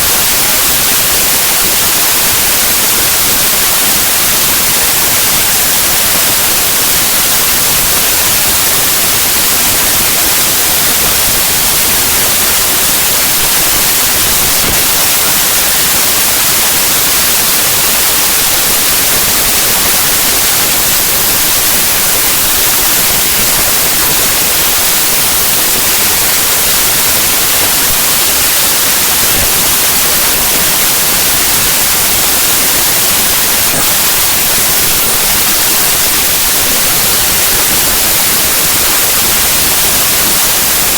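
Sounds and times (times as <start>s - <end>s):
white noise static hiss: 0.0s - 40.9s.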